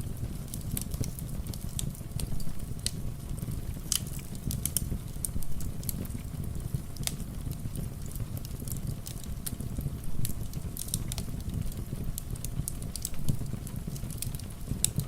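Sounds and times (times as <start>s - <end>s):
low rumble of rain: 0.0s - 15.0s
wood fire crackling: 0.0s - 15.0s.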